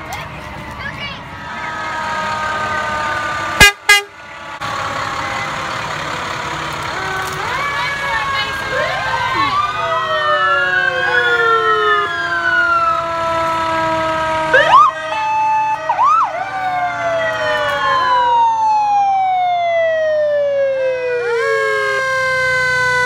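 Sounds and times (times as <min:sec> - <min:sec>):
fire truck sirens wailing: 0:00.0 - 0:23.0
truck engines humming: 0:00.0 - 0:23.0.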